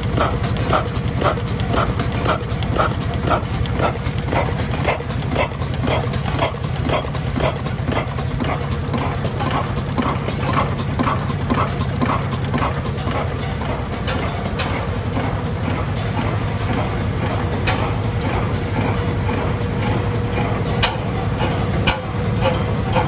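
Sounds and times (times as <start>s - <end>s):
oil engine running: 0.0s - 23.0s
sharp engine clack: 0.0s - 23.0s.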